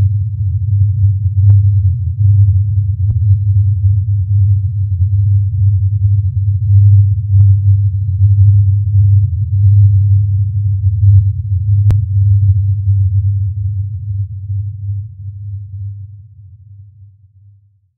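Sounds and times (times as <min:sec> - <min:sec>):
low droning hum: 0:00.0 - 0:17.1.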